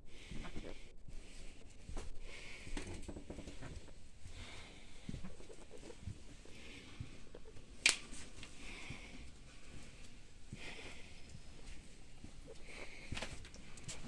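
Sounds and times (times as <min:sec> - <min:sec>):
faint footsteps: 0:00.1 - 0:14.0.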